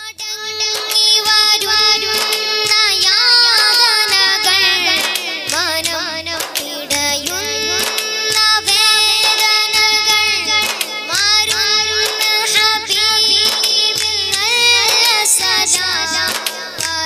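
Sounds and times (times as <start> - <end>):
boy singing: 0.0 - 17.0
repeating low beat: 0.2 - 17.0.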